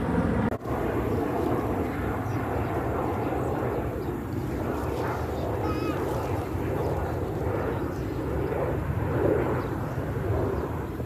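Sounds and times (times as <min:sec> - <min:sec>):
faint voices: 0:00.7 - 0:11.0.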